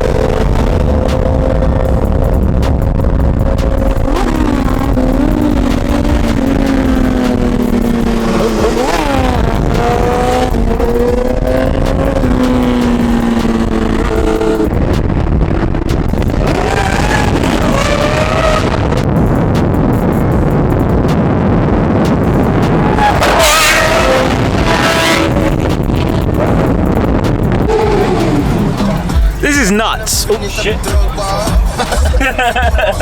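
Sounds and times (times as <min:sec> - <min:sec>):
car engines revving: 0:00.0 - 0:33.0
wavering engine notes: 0:00.0 - 0:33.0.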